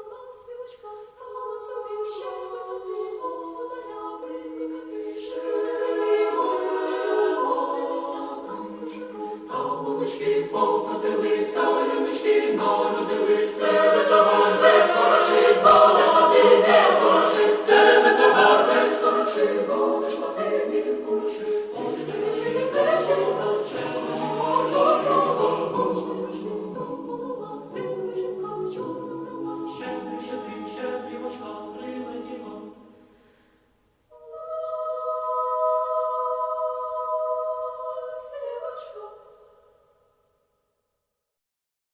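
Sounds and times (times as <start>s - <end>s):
choir singing a carol: 0.0s - 33.3s, 34.1s - 39.8s.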